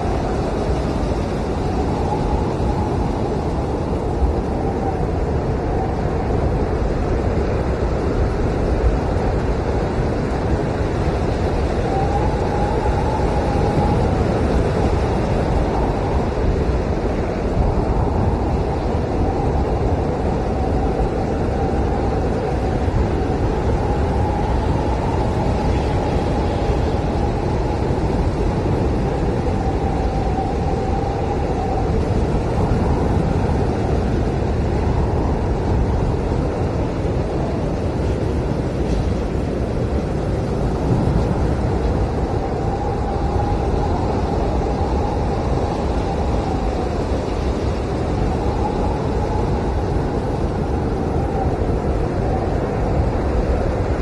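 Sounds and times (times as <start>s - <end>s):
blizzard wind howling: 0.0s - 54.0s.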